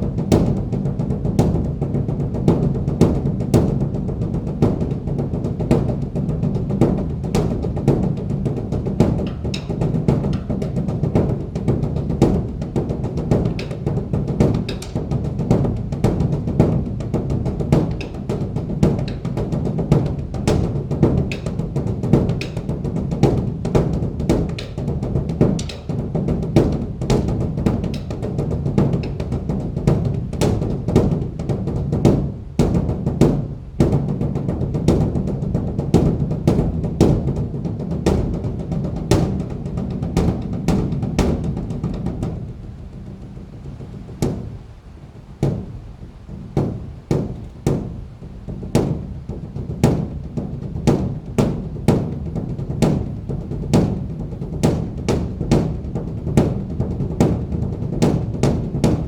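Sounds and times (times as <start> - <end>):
large drum beaten in deep strikes: 0.0 - 59.0.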